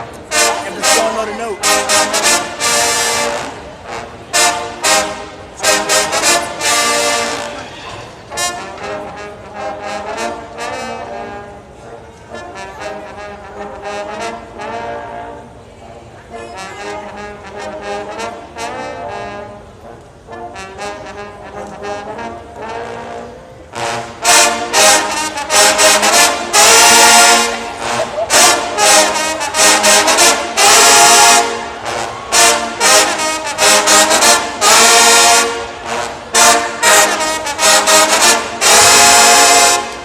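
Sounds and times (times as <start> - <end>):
trombone section playing: 0.0 - 15.5, 16.4 - 40.0.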